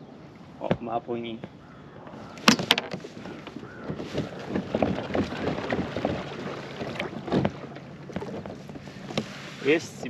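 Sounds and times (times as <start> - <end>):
water splashing and sloshing: 0.1 - 10.0
light knocks against hull: 0.6 - 9.6.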